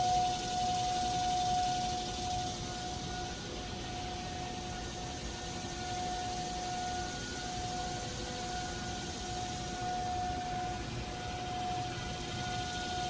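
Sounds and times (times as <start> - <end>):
distant warning siren: 0.0 - 13.0.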